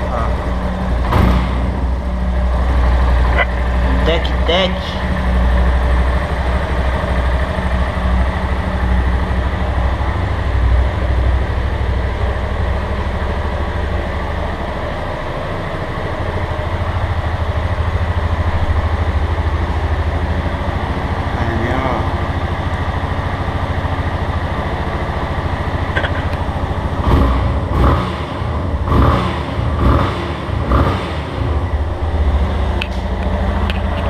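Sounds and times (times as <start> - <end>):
motorcycle engine idling: 0.0 - 34.0
ticking in engine: 0.0 - 34.0.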